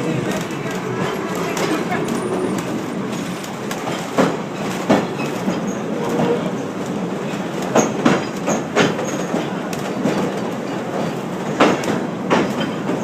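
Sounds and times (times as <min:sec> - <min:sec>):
train wheels rumbling on track: 0:00.0 - 0:13.0
wheels clicking over rail joints: 0:00.0 - 0:13.0.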